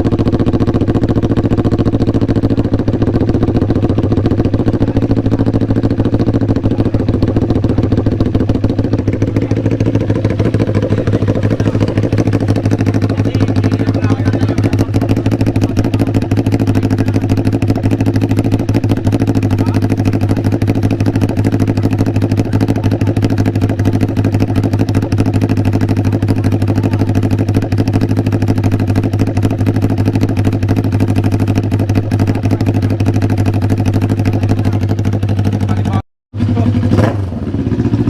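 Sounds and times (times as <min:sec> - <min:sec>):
motorcycle engine running steadily: 0:00.0 - 0:38.0.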